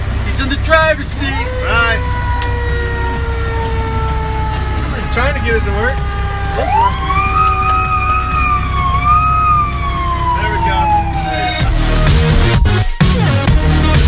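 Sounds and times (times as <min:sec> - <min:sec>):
truck engine rumble: 0:00.0 - 0:14.0
fire engine siren wailing: 0:00.4 - 0:13.5.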